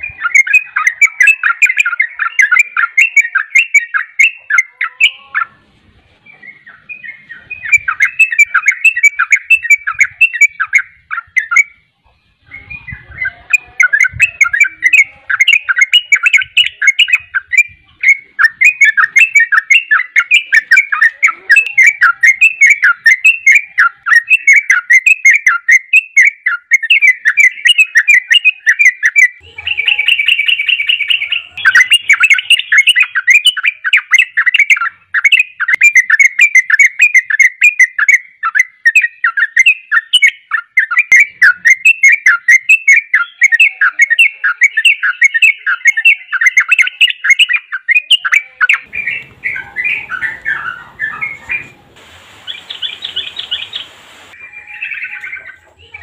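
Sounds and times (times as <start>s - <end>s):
bird singing chattering notes: 0.0s - 5.6s, 6.2s - 56.0s
bird trill: 0.0s - 56.0s.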